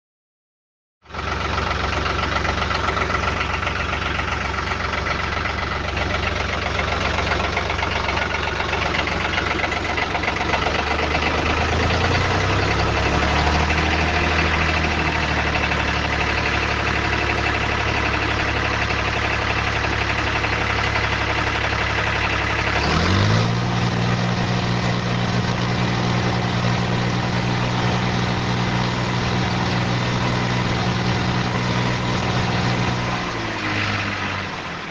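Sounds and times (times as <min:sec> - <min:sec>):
tractor diesel engine running: 0:01.1 - 0:34.9.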